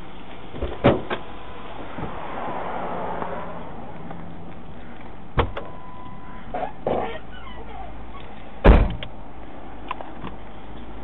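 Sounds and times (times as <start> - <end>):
vehicle running noise: 0.0 - 11.0.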